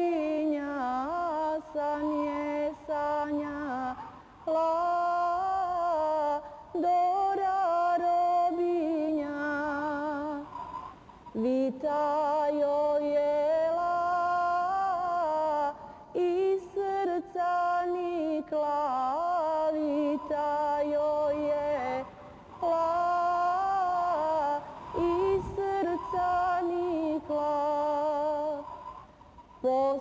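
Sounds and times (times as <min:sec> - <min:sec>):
woman singing folk song: 0:00.0 - 0:30.0.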